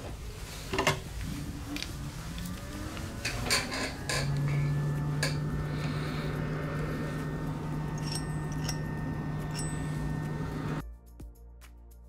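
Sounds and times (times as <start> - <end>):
steady low hum: 1.1 - 10.8.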